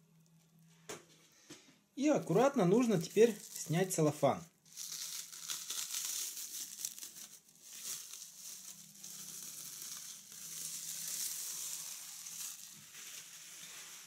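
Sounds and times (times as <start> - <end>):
cling film crinkling: 2.0 - 14.0.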